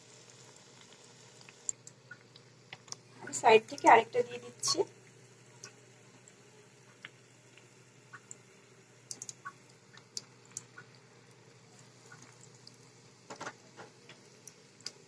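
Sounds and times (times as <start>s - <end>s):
fries sizzling in hot oil: 0.0s - 15.0s.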